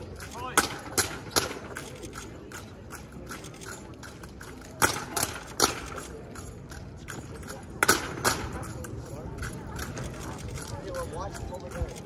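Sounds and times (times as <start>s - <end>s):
rifles clacking: 0.0s - 12.0s.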